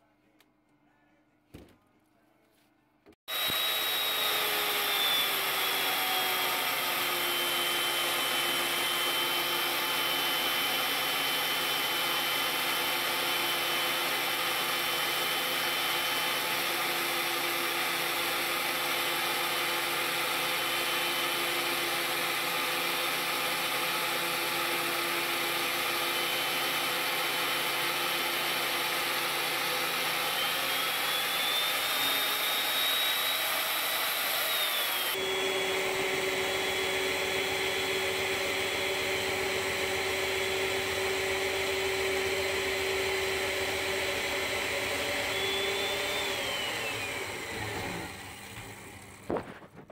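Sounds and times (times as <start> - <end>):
chain mortiser cutting wood: 3.3 - 49.9.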